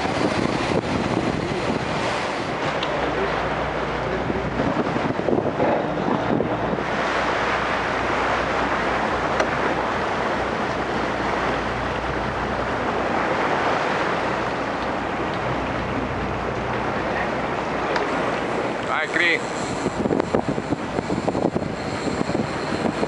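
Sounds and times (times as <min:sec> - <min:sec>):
boat engine drone: 0:00.0 - 0:23.0
rushing water: 0:00.0 - 0:23.0
wind on microphone: 0:00.0 - 0:23.0.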